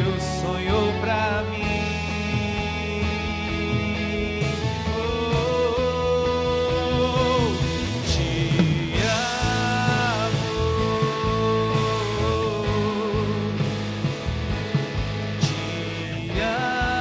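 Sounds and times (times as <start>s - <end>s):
steady low bass: 0.0s - 17.0s.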